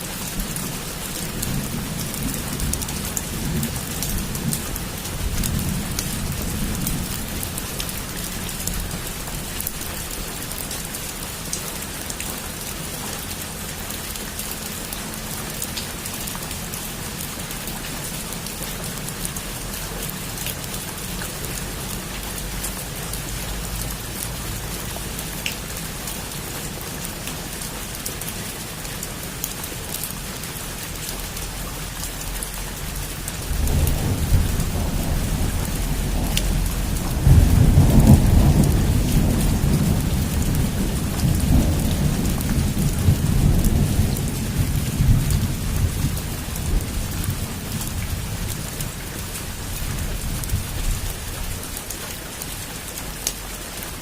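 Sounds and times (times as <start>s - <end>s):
heavy rain on a rooftop: 0.0s - 54.0s.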